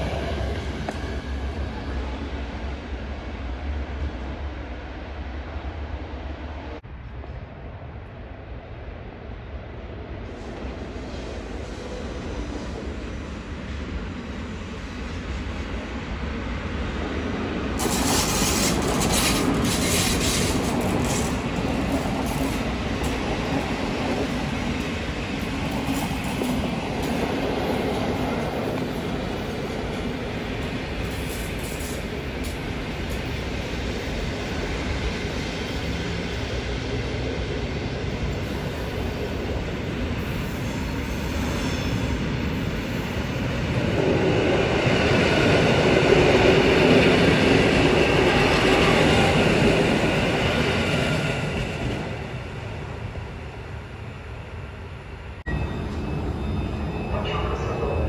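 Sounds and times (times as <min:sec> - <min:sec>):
train rolling over tracks: 0:00.0 - 0:08.3, 0:09.6 - 0:58.0
passing train rumble: 0:00.0 - 0:58.0.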